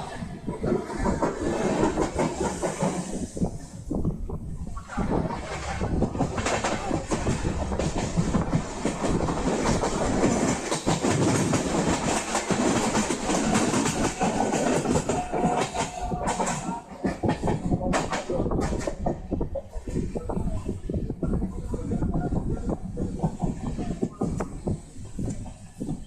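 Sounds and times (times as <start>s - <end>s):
train wheels clattering: 0.0s - 26.0s.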